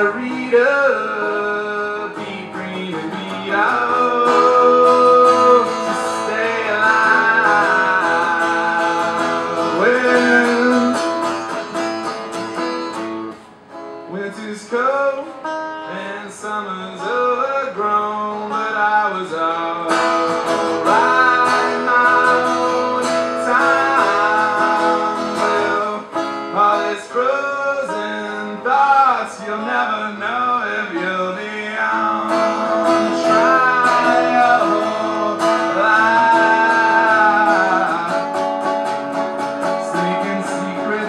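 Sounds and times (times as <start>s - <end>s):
guitar strumming: 0.0s - 41.0s.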